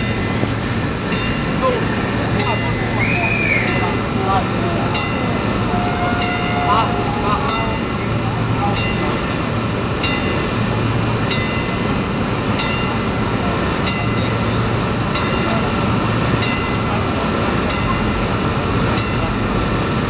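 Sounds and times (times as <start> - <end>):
people talking: 0.0 - 9.5, 11.9 - 19.9
train humming: 0.0 - 20.0.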